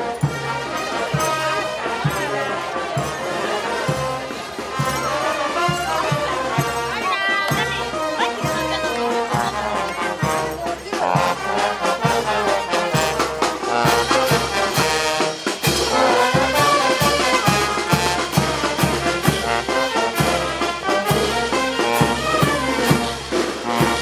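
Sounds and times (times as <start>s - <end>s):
brass band playing: 0.0s - 24.0s
steady drum beat: 0.0s - 24.0s.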